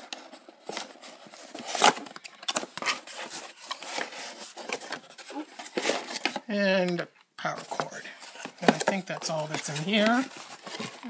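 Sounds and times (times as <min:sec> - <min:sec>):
cardboard packaging rustling: 0:00.0 - 0:11.0.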